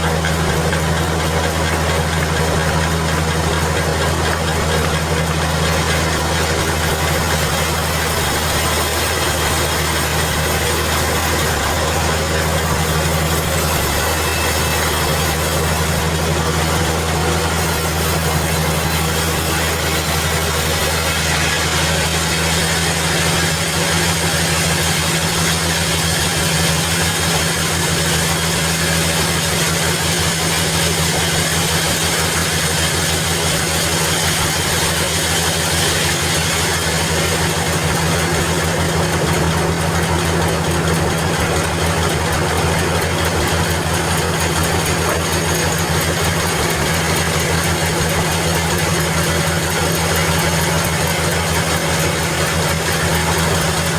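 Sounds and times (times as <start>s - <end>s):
sawmill machinery drone: 0.0s - 53.9s.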